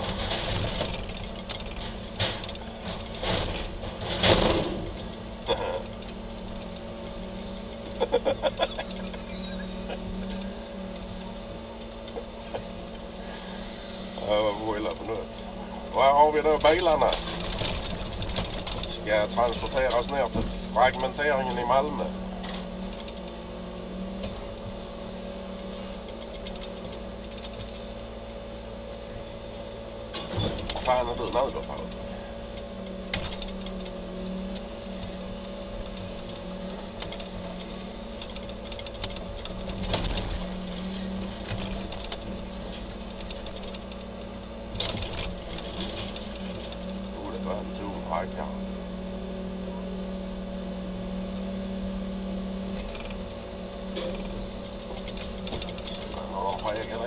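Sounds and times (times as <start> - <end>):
crane boom rattling and clanking: 0.0 - 28.0, 30.0 - 57.0
truck engine and hydraulics humming: 0.0 - 57.0.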